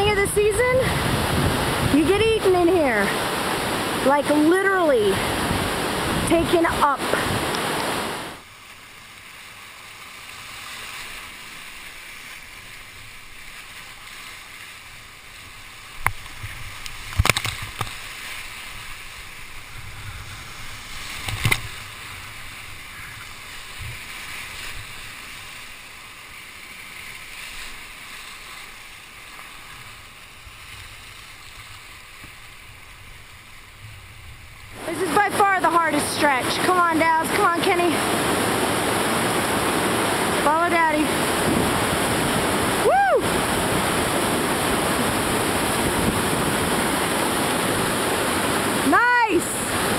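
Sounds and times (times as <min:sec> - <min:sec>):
whitewater rapids rushing: 0:00.0 - 0:49.9.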